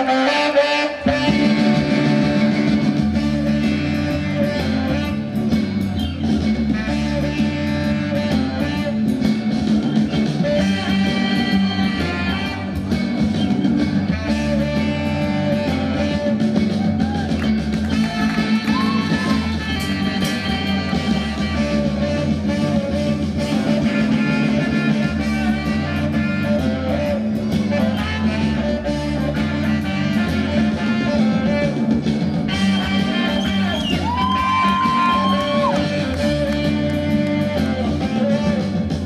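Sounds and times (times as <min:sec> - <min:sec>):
rock music with guitar: 0:00.0 - 0:39.0.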